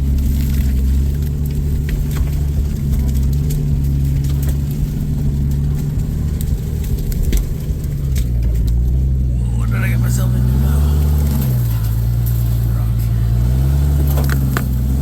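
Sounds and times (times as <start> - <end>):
vehicle engine humming at low revs: 0.0 - 15.0.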